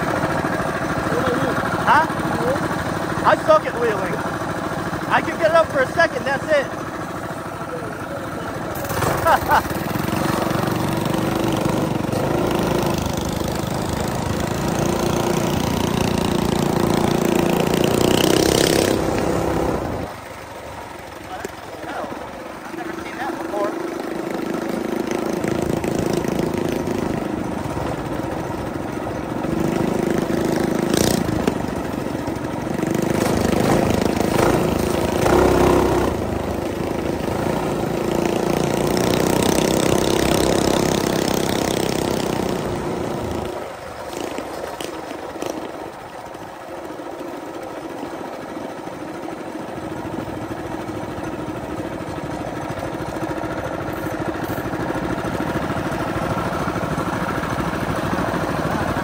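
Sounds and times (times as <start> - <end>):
mini bike engine running: 0.0 - 59.0.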